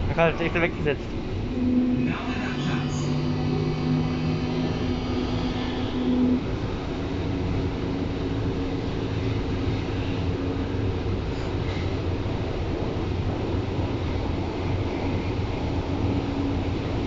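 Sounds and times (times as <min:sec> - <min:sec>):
humming tone: 0:00.0 - 0:17.0
wheels rumbling on track: 0:00.0 - 0:17.0.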